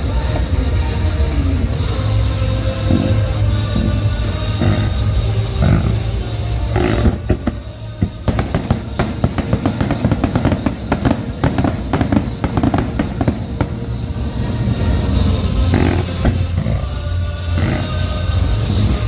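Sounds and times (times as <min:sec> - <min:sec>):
fireworks bangs and crackles: 0:00.0 - 0:19.0
music with heavy bass: 0:00.0 - 0:19.0.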